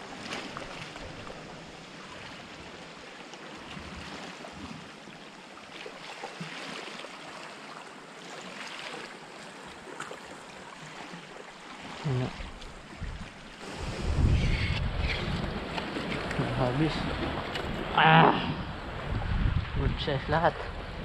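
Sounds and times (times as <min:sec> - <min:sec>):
faint water splashes: 0:00.0 - 0:20.9.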